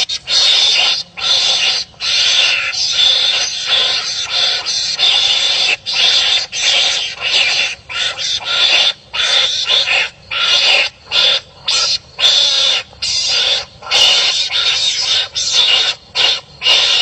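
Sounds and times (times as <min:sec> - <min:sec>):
animals barking harshly: 0:00.0 - 0:17.0.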